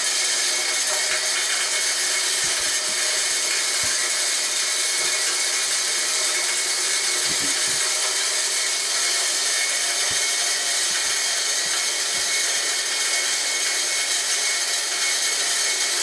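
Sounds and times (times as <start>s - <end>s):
electric grinder grinding corn: 0.0s - 16.0s.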